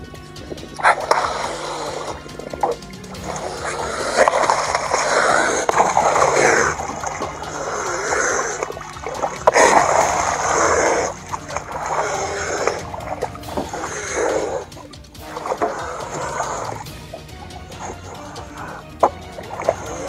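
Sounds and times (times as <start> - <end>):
water splashing beside a boat: 0.0 - 20.0.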